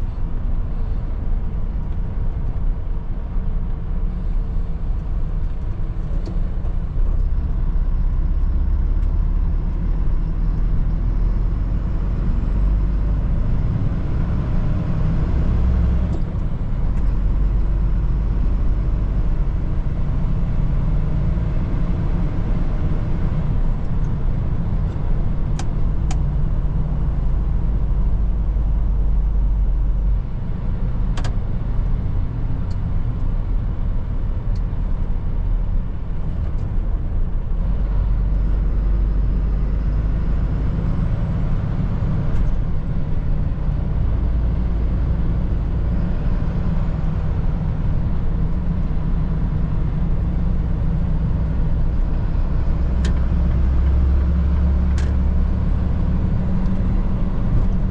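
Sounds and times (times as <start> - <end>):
truck engine and road noise: 0.0 - 57.9.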